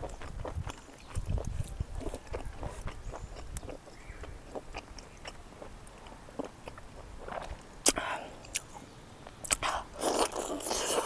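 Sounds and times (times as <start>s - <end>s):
close chewing: 0.0s - 11.0s.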